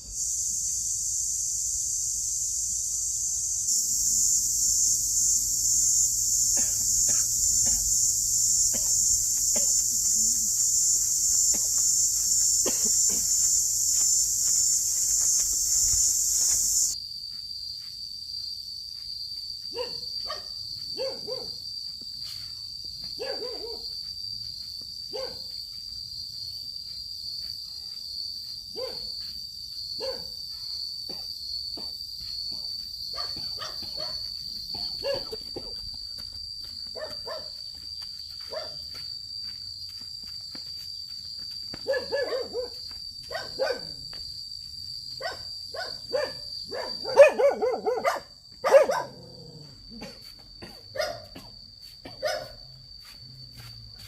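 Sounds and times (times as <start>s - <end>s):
high-pitched insect chorus: 0.0s - 54.0s
quiet insect trill: 0.0s - 54.0s.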